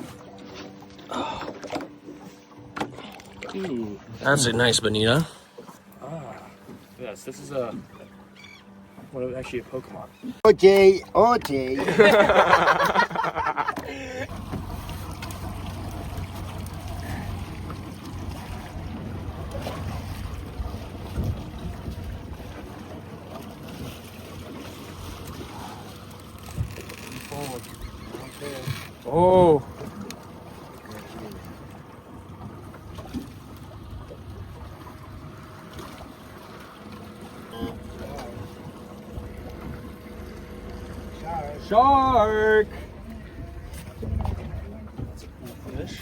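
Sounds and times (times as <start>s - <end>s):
boat motor humming: 0.0s - 46.0s
water noise: 0.0s - 46.0s.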